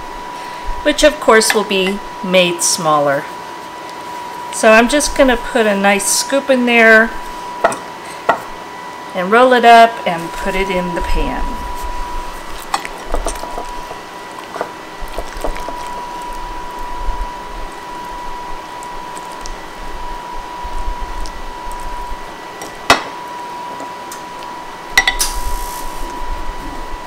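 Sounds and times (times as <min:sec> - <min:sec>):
thin high whine: 0:00.0 - 0:27.0.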